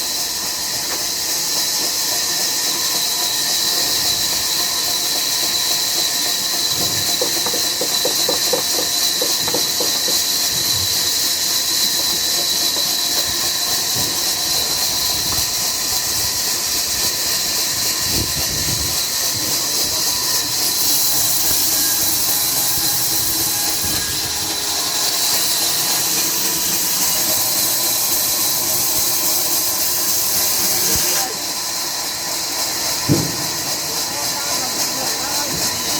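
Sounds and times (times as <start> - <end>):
sawmill machinery hissing: 0.0 - 35.9.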